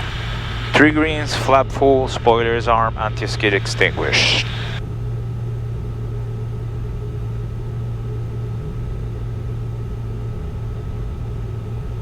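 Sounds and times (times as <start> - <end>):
cockpit airflow: 0.0 - 12.0
jet engine drone: 0.0 - 12.0.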